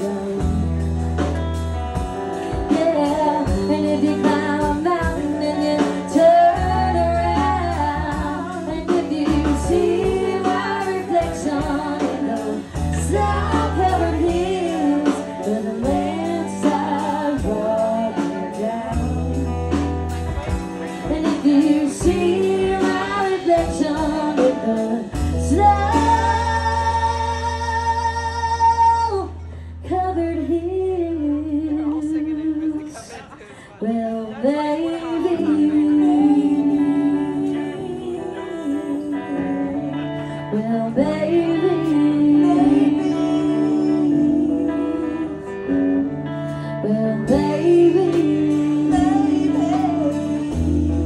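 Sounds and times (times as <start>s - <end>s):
steady bass line: 0.0s - 32.6s, 40.6s - 51.0s
band playing: 0.0s - 51.0s
woman singing into a microphone: 0.0s - 51.0s.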